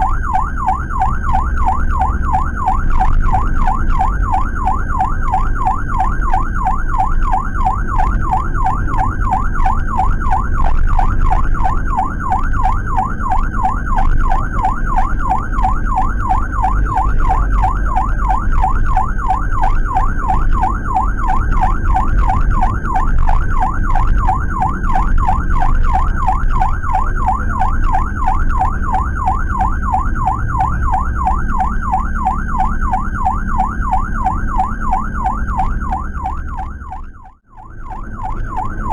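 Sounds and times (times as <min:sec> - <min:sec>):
ambulance siren warble: 0:00.0 - 0:38.9.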